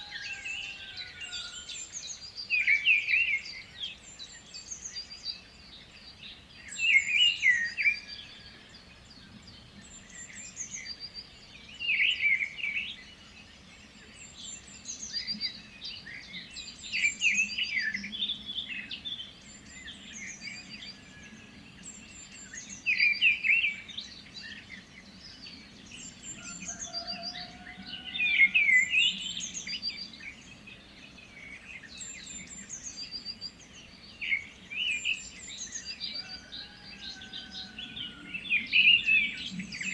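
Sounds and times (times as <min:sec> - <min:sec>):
birds chirping and singing: 0:06.3 - 0:39.9.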